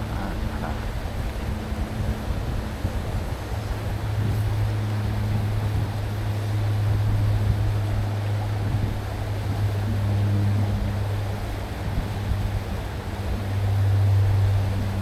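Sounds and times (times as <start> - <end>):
low hum: 0.0 - 15.0
stream water rushing: 0.0 - 15.0.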